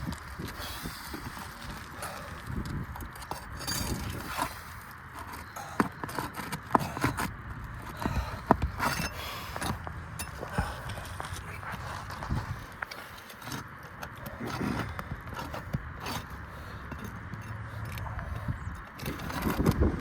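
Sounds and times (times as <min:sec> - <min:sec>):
knocks and scrapes on shingle roof: 0:00.0 - 0:20.0.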